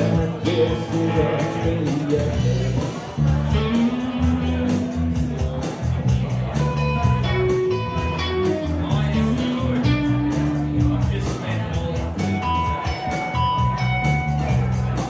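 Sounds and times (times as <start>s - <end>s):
bass: 0.0s - 15.0s
drums keeping a steady beat: 0.0s - 15.0s
guitar: 0.0s - 15.0s.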